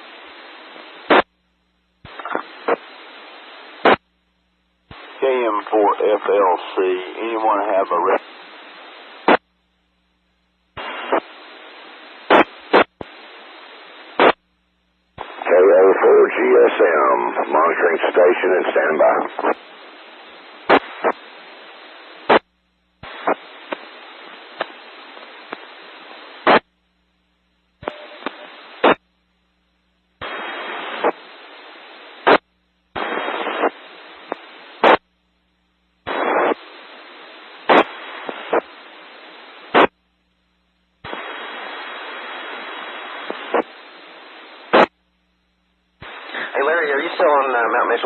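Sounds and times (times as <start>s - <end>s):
radio static hiss: 0.0s - 48.0s.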